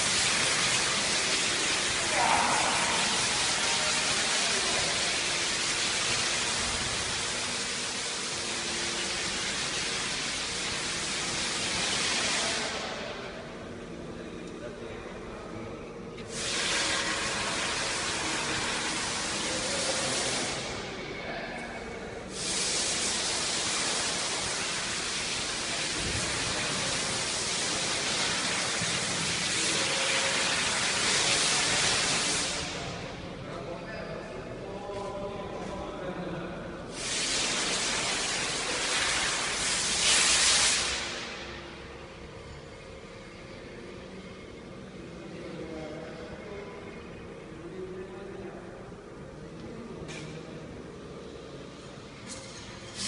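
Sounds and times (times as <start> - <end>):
steady loud hiss: 0.0 - 53.0.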